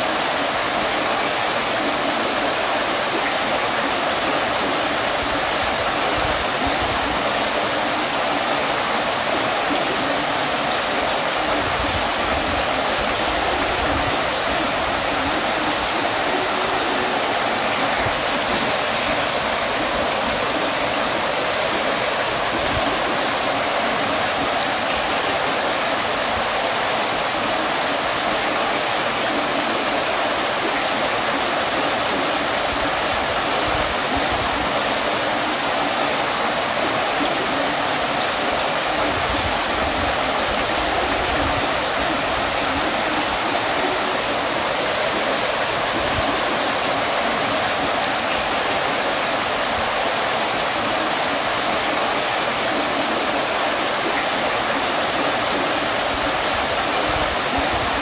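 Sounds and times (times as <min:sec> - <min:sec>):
water fountain splashing: 0:00.0 - 0:58.0.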